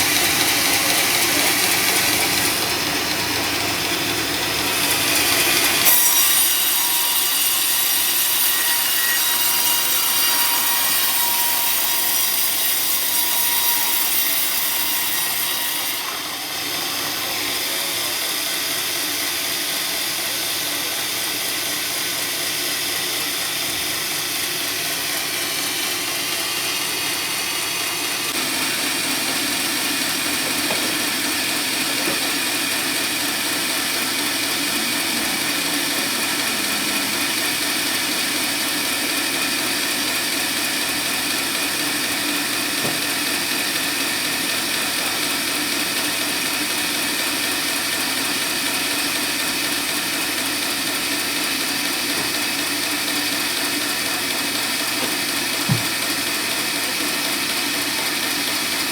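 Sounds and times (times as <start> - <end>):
sawmill saw cutting log: 0.0 - 58.9.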